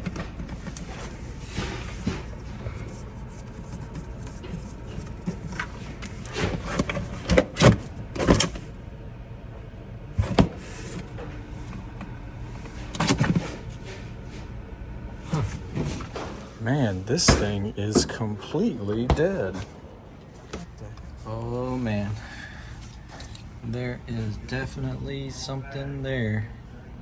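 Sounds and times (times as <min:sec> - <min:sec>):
refrigerator humming: 0:00.0 - 0:27.0.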